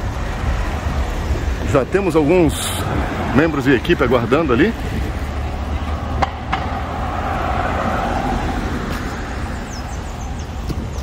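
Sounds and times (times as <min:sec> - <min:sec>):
car passing: 0:00.0 - 0:11.0
low traffic rumble: 0:00.0 - 0:11.0.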